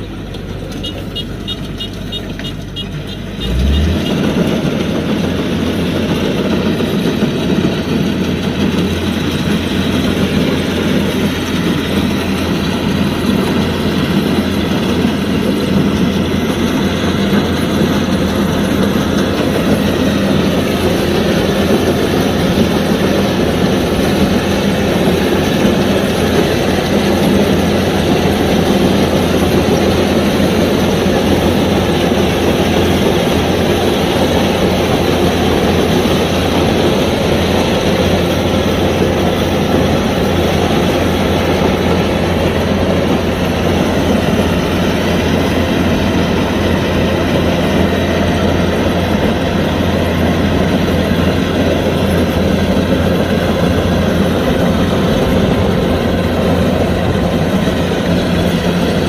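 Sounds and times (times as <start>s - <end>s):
combine harvester engine humming: 0.0s - 59.0s
threshing machinery clatter: 0.1s - 59.0s.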